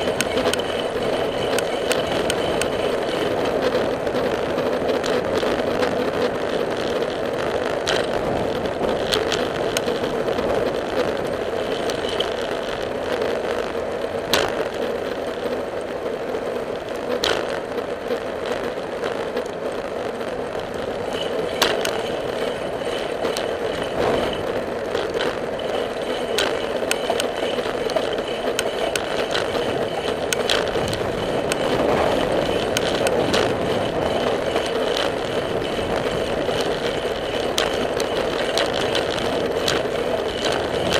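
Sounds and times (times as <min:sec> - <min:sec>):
bicycle clicks and rattles: 0:00.0 - 0:40.9
wind and tyres rushing: 0:00.0 - 0:40.9.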